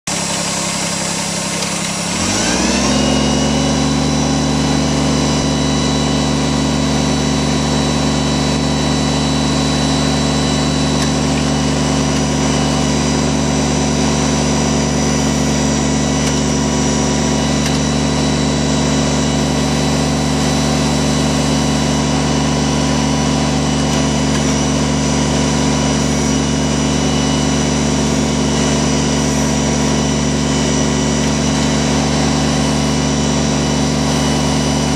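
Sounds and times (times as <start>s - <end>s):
tractor diesel engine revving: 0.0s - 34.9s.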